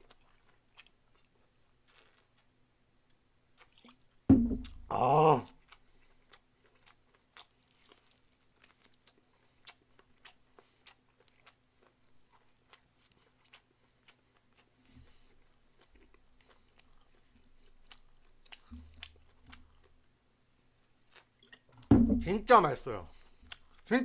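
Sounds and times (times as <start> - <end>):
wet chewing and mouth smacks: 0.0 - 2.6, 3.5 - 4.9, 5.5 - 20.0, 21.0 - 21.9, 23.2 - 23.9.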